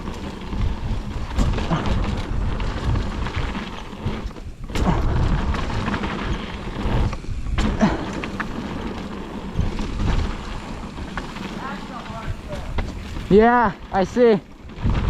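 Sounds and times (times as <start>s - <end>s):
bike clattering on rough ground: 0.0s - 15.0s
wind rumbling on microphone: 0.0s - 15.0s.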